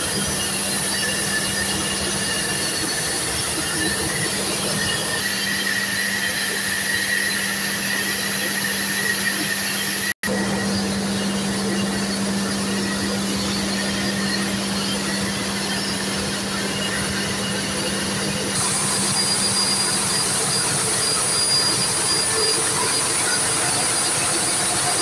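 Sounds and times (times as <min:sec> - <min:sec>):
diesel generators running: 0:00.0 - 0:25.0
high machinery whine: 0:00.0 - 0:25.0.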